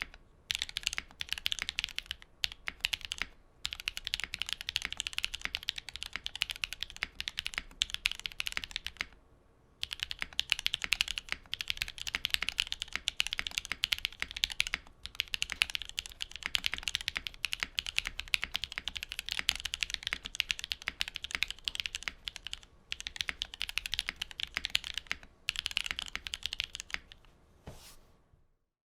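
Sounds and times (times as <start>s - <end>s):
mechanical keyboard typing: 0.0s - 9.2s, 9.8s - 27.3s.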